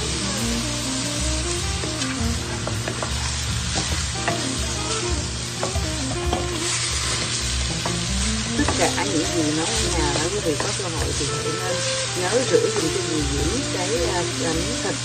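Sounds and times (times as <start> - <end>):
meat sizzling in a frying pan: 0.0 - 15.0
spatula scraping a pan: 2.1 - 8.0, 8.6 - 14.6.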